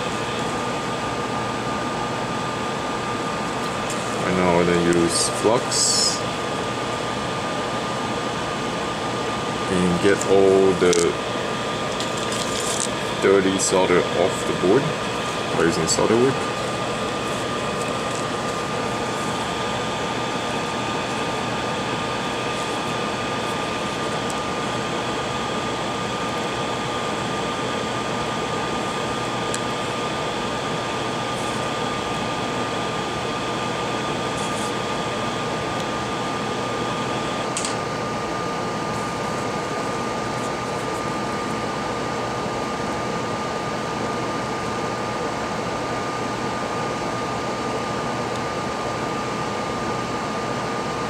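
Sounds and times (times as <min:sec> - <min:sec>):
small electric fan whirring: 0:00.0 - 0:51.0.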